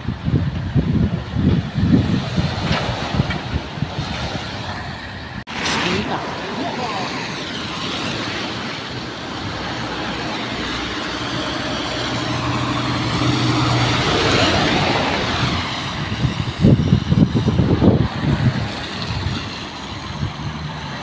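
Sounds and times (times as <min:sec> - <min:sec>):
wind buffeting on microphone: 0:00.0 - 0:21.0
tyres hissing on wet road: 0:00.6 - 0:21.0
lorry diesel engine passing: 0:00.7 - 0:21.0.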